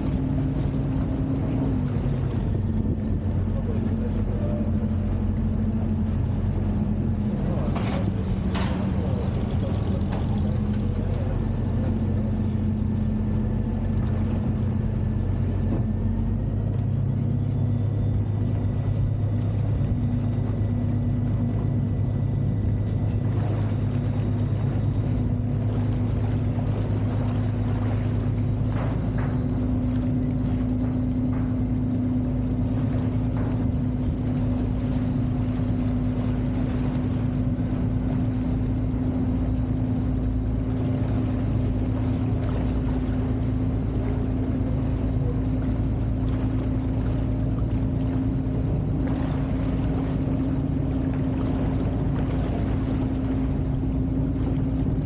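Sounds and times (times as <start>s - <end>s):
motor boat engine drone: 0.0s - 55.0s
water rushing along hull: 0.0s - 55.0s.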